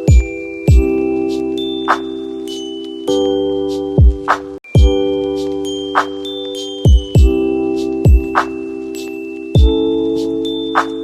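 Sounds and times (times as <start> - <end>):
chime-like bell notes: 0.0 - 11.0.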